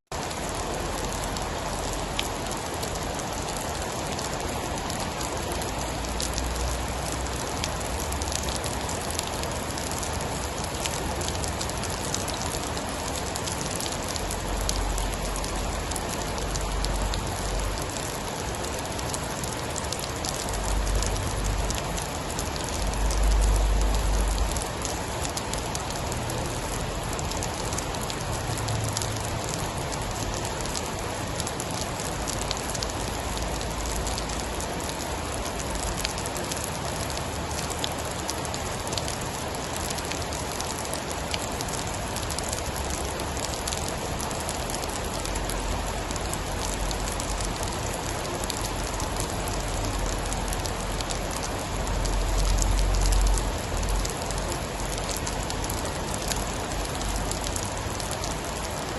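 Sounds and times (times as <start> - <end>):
heavy rain falling: 0.1 - 58.9.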